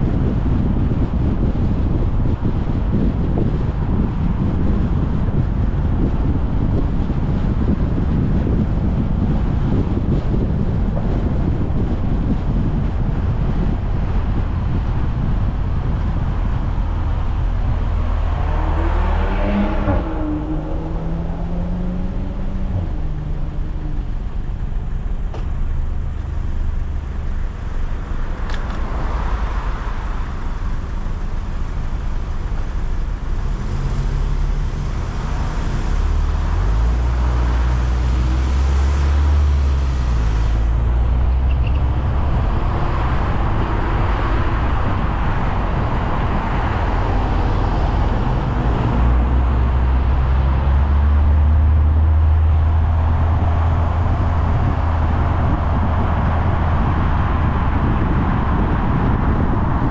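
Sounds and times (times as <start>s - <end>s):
car engine running: 0.0s - 59.9s
tyre and road noise: 0.0s - 59.9s.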